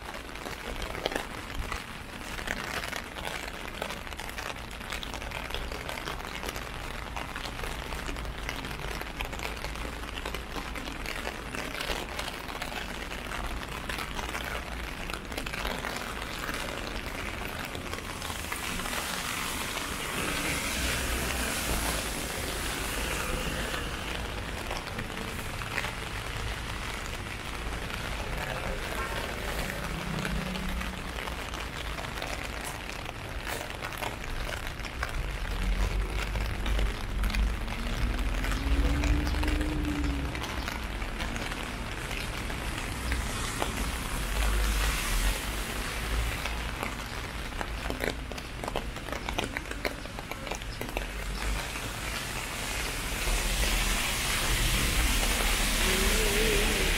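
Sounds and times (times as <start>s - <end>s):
rain on umbrella and street: 0.0s - 56.9s.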